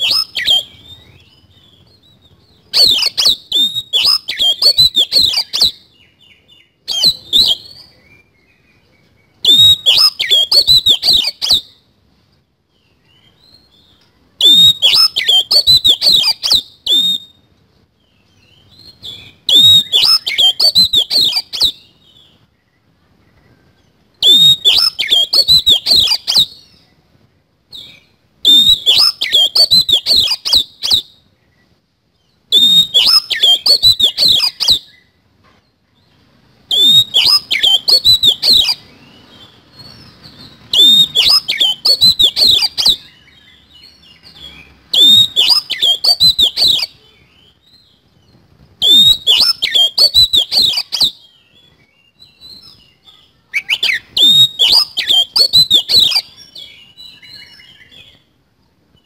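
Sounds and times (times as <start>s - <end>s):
bird singing chattering phrases: 0.0s - 11.7s, 13.2s - 17.2s, 18.5s - 22.4s, 24.2s - 26.8s, 28.5s - 31.0s, 32.6s - 35.0s, 36.7s - 58.4s.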